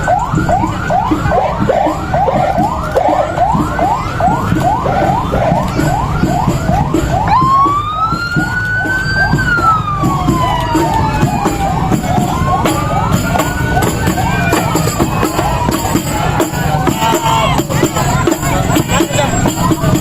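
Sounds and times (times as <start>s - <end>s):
siren wail: 0.0s - 20.0s
siren yelp: 0.0s - 20.0s.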